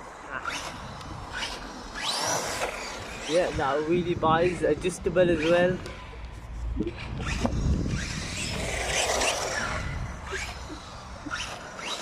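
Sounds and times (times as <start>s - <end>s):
rc truck driving past: 0.0s - 12.0s.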